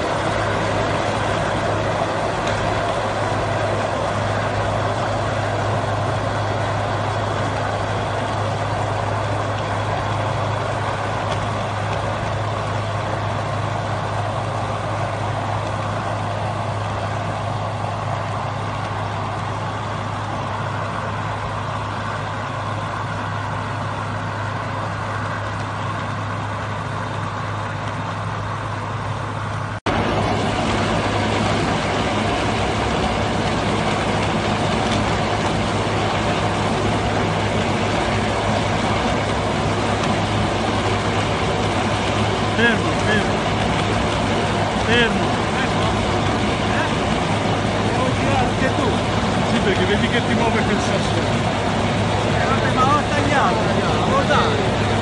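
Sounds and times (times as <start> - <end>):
diesel engine hum: 0.0 - 55.0.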